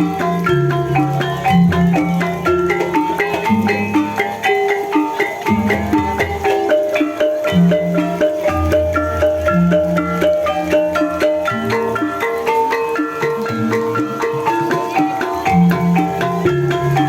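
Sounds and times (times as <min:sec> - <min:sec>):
mallet-struck pitched notes: 0:00.0 - 0:17.0.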